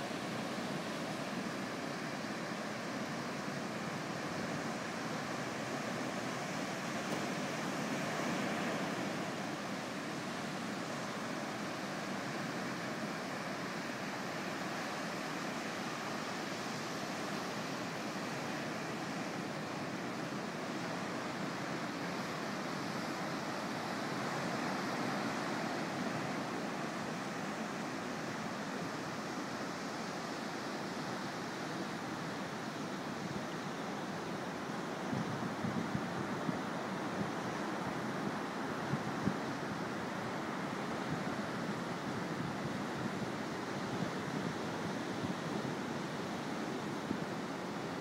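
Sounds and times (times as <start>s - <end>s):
ocean surf on beach: 0.0s - 48.0s.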